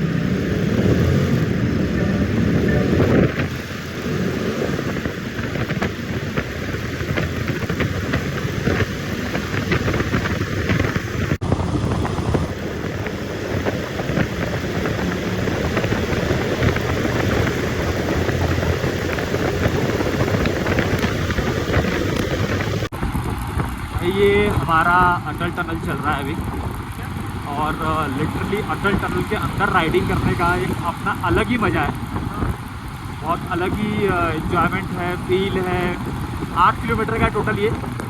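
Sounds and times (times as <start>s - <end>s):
motorcycle engine running: 0.0s - 38.0s
wind noise on microphone: 0.0s - 38.0s.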